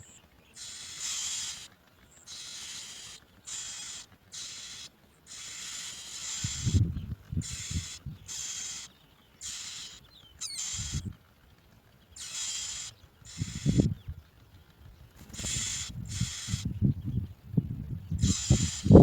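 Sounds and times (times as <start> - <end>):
nestlings begging raspy: 0.0 - 11.1, 12.1 - 14.1, 15.2 - 17.2, 18.1 - 19.0.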